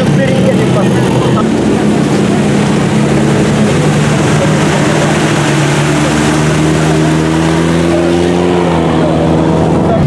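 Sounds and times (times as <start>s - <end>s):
off-road engine droning: 0.0s - 10.0s.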